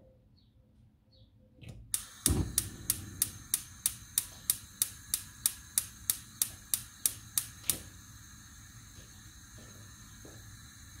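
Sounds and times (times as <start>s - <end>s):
spark igniter clicking: 1.9s - 11.0s.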